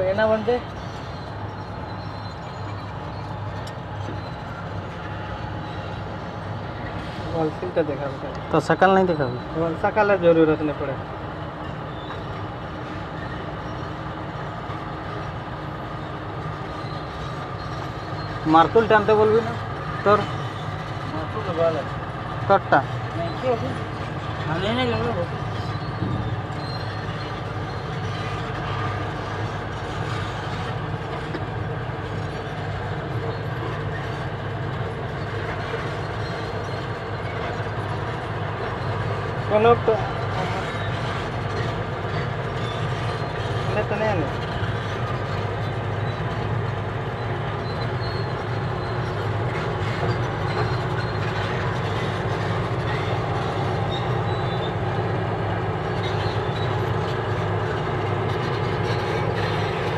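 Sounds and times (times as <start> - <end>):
engine running low rumble: 0.0 - 59.9.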